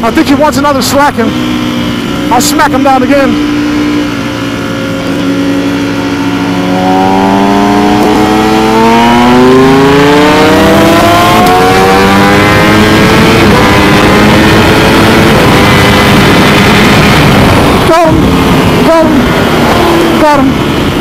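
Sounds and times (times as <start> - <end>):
motorcycle engine accelerating hard: 0.0 - 21.0.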